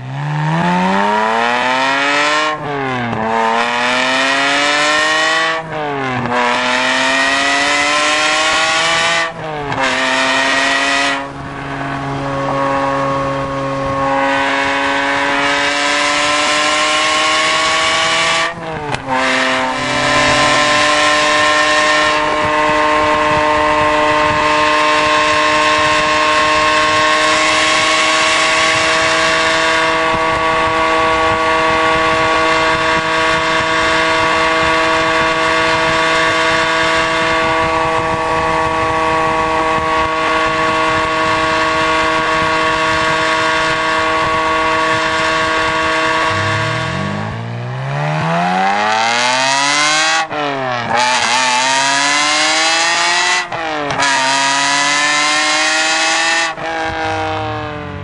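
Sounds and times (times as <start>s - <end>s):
sports car engine accelerating: 0.0s - 58.0s.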